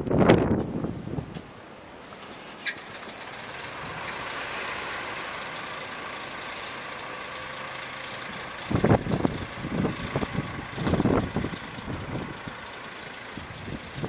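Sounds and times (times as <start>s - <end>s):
bus diesel engine running: 0.5s - 14.0s.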